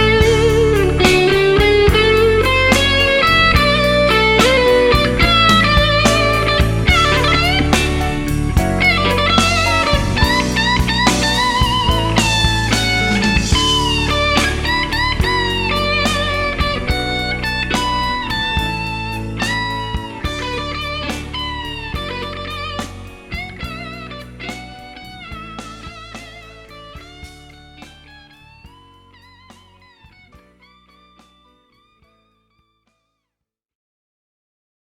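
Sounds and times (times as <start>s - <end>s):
band backing: 0.0s - 31.6s
electric blues guitar solo: 0.0s - 32.0s.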